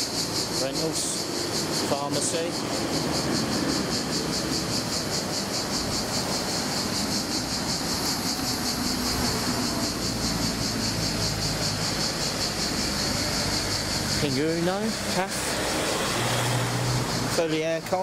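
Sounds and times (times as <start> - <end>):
cicadas chirring: 0.0 - 18.0
street traffic rumble: 0.0 - 18.0.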